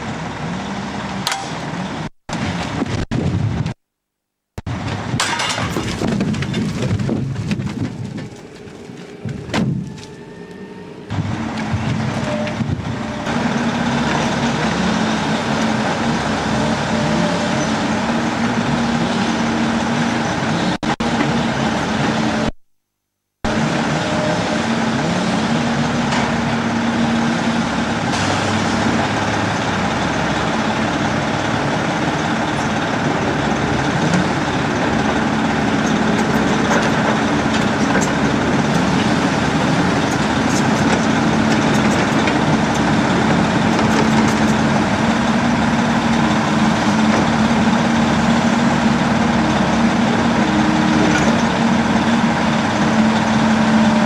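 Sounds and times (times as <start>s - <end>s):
heavy diesel engine droning: 0.0s - 3.8s, 4.6s - 22.6s, 23.4s - 54.0s.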